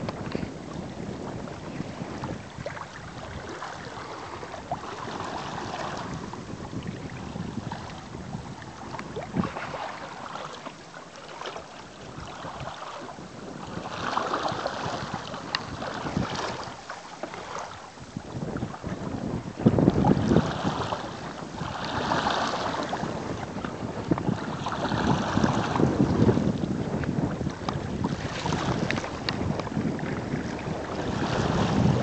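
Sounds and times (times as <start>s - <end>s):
water splashing along hull: 0.0s - 32.0s
wind noise on microphone: 0.0s - 32.0s.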